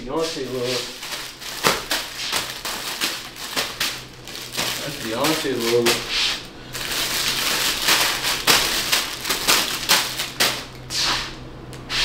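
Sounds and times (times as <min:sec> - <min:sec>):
faint steady hum: 0:00.0 - 0:12.0
packaging rustling and crinkling: 0:00.3 - 0:10.8.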